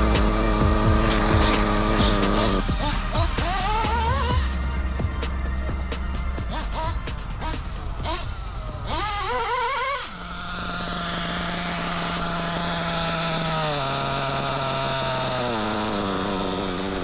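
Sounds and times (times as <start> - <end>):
rc engine buzzing: 0.0 - 17.0.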